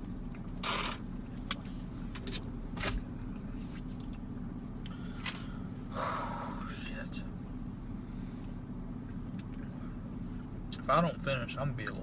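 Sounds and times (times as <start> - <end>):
car idling hum: 0.0 - 12.0.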